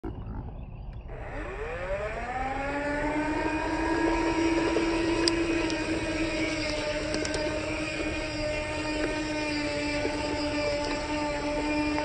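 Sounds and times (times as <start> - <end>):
low rough rumble: 0.0 - 12.0
toy tractor motor whine: 1.1 - 12.0.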